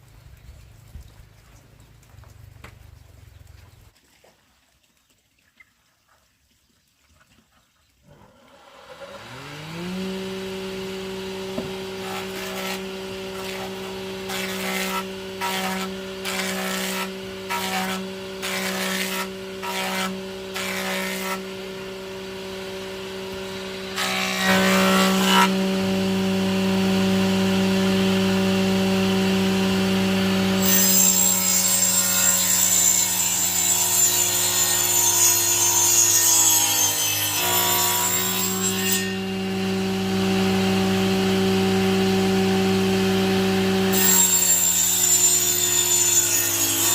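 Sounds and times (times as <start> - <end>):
power tool cutting wood: 8.1 - 46.9.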